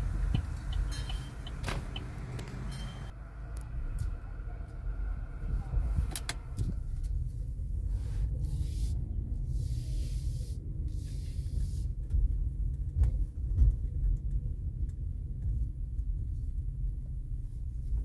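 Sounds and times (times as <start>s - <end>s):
car driving slowly: 0.0s - 18.0s.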